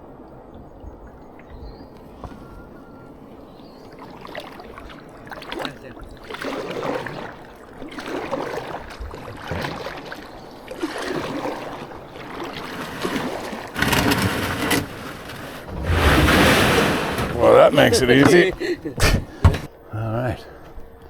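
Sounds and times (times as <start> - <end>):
kayak paddle splashing: 1.0 - 19.7.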